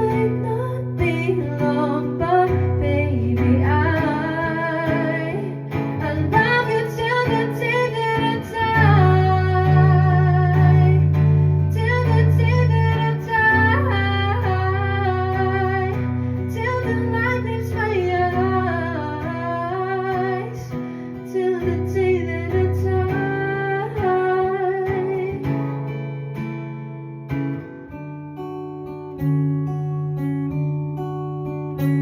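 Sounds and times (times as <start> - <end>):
woman singing: 0.0 - 26.2
acoustic guitar: 0.0 - 32.0.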